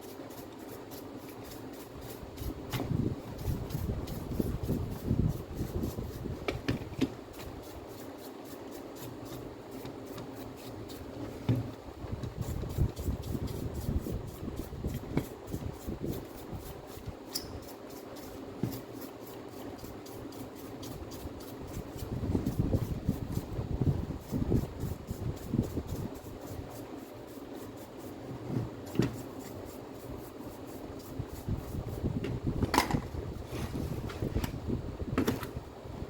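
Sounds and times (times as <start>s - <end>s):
rubbing and scraping at a bench: 0.0s - 34.6s.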